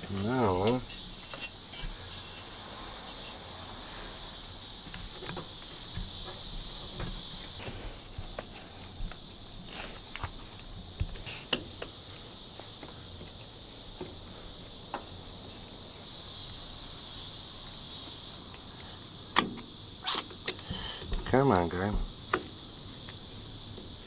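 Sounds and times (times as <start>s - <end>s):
loud hiss: 0.0s - 24.0s
steady high background hiss: 0.0s - 24.0s.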